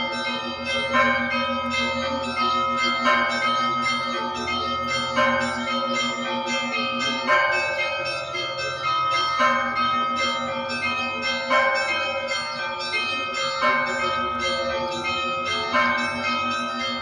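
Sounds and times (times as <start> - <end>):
large church bell striking: 0.0 - 17.0
small bells chiming: 0.0 - 17.0.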